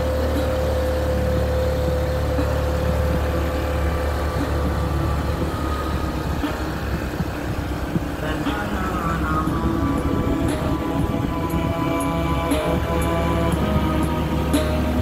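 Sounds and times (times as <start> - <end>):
scooter engine drone: 0.0 - 15.0
thin steady whine: 0.0 - 15.0
wind and road noise: 0.0 - 15.0.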